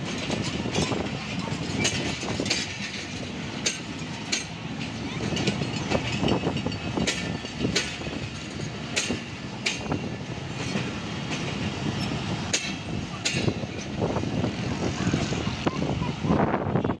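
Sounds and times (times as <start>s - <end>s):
train wheels clacking on rail joints: 0.0s - 15.6s
train rumbling past: 0.0s - 17.0s.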